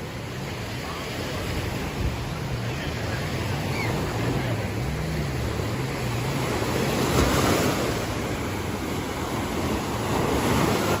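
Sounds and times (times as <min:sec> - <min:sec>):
sea waves washing onto beach: 0:00.0 - 0:11.0.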